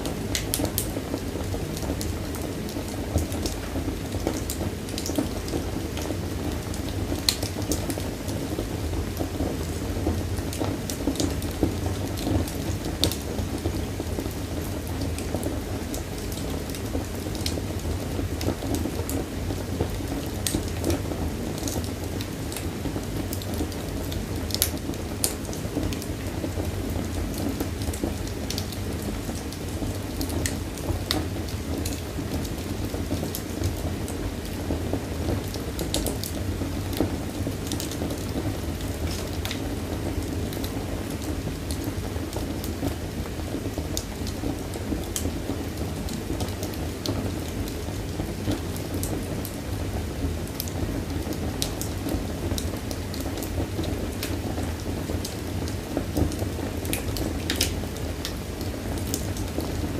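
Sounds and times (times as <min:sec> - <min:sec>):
wood fire crackling: 0:00.0 - 0:59.9
sharp pops and snaps of fire: 0:00.1 - 0:59.9.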